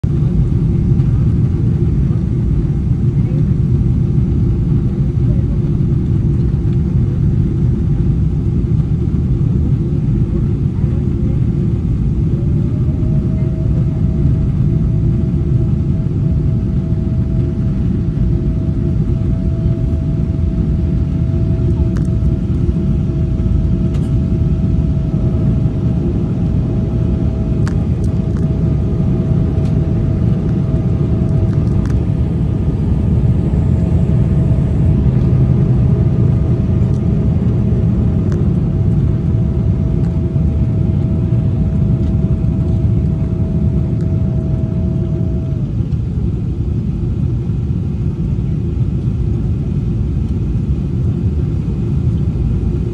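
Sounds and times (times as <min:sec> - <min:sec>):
jet engines and airflow rumble: 0:00.0 - 0:52.9.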